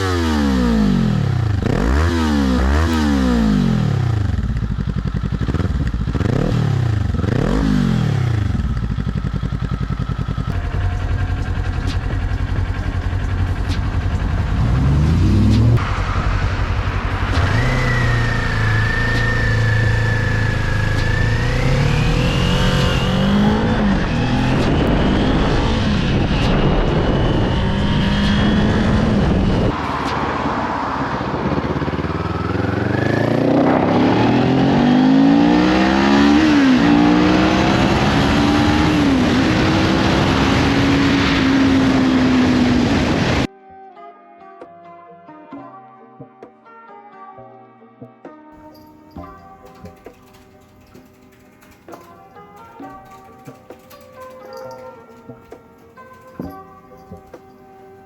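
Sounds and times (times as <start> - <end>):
motorcycle engine revving: 0.0 - 43.5, 48.6 - 58.0.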